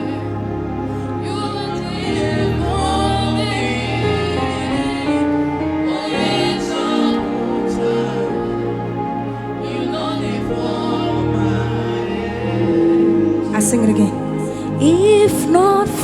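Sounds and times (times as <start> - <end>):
held chords over bass line: 0.0 - 16.0
voices singing: 0.0 - 16.0.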